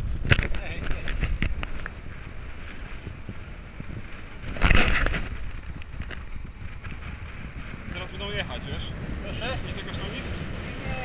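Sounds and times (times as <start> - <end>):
steady low rumble: 0.0 - 11.0
wind rushing over microphone: 0.0 - 11.0.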